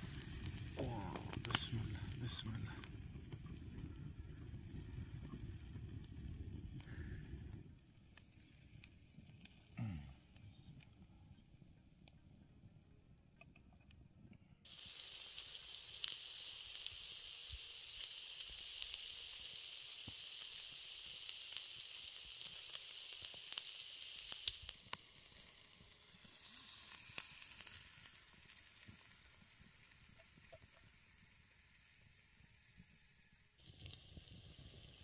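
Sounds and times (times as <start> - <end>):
meat sizzling on a grill: 0.0 - 9.6, 14.7 - 35.0
embers crackling and popping: 0.0 - 11.4, 14.6 - 35.0.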